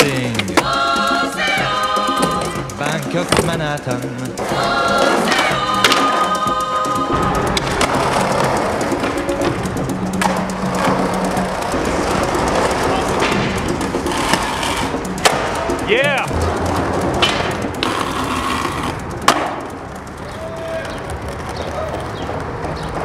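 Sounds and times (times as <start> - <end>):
skateboard clack: 0.0 - 23.0
skateboard wheels rolling on concrete: 3.2 - 23.0.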